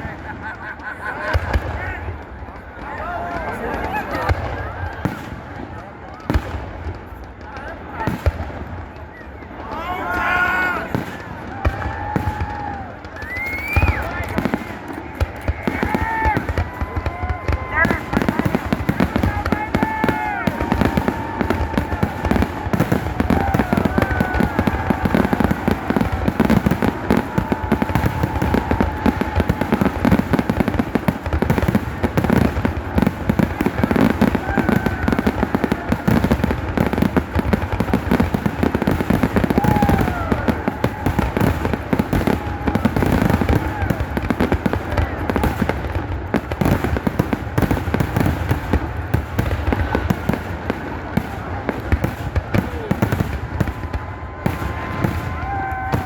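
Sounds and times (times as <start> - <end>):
fireworks bangs and crackles: 0.0 - 56.0
fireworks whistling: 0.0 - 56.0.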